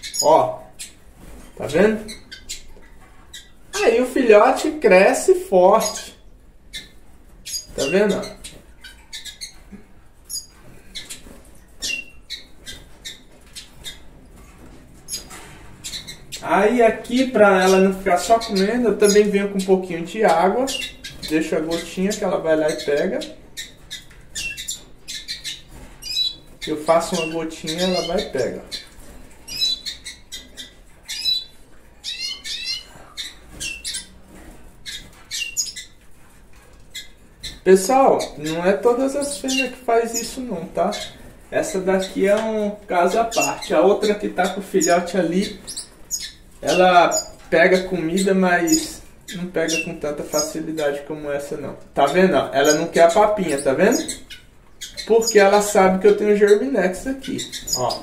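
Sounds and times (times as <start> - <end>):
birds chirping squeakily: 0.0 - 58.0.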